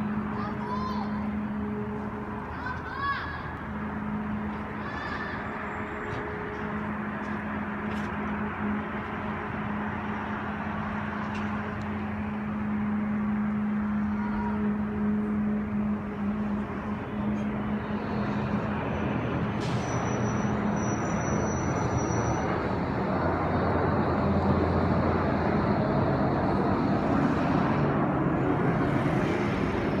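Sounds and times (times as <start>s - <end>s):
rushing traffic-like noise: 0.0s - 30.0s.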